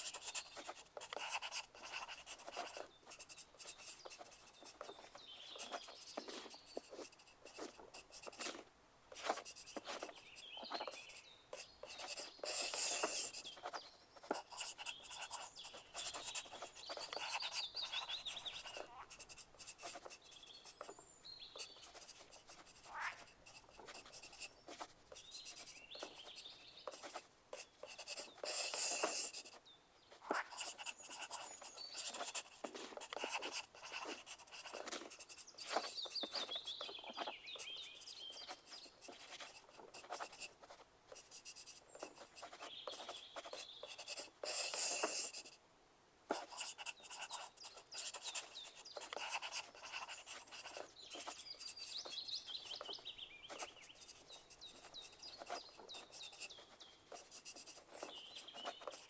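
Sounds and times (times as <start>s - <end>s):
pencil writing on paper: 0.0s - 29.6s, 30.2s - 45.6s, 46.3s - 59.0s.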